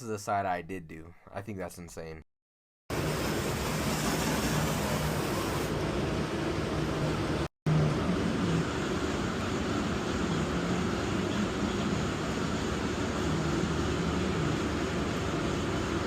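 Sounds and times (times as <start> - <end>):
hvac machinery humming: 2.9 - 16.0.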